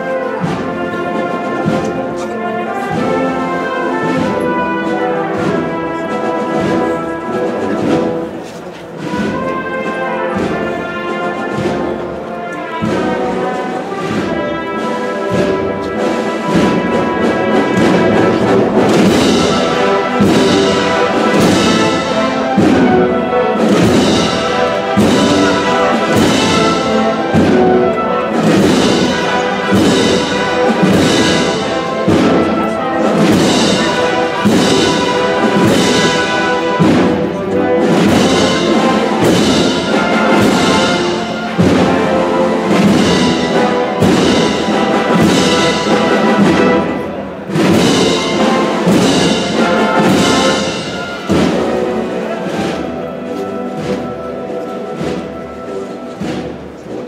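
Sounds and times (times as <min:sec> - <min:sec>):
brass band playing march: 0:00.0 - 0:57.0
steady drum beat: 0:00.0 - 0:57.0.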